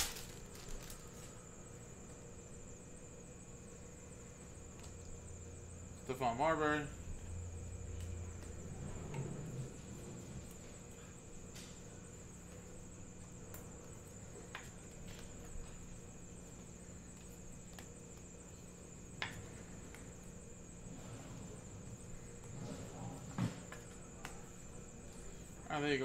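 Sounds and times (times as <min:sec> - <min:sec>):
low hum: 0:00.0 - 0:25.6.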